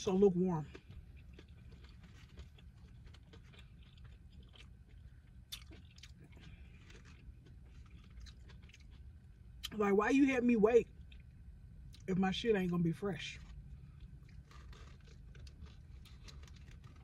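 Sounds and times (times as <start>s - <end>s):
low steady hum: 0.0s - 17.0s
person chewing food: 0.2s - 9.8s, 11.0s - 12.1s, 13.4s - 17.0s.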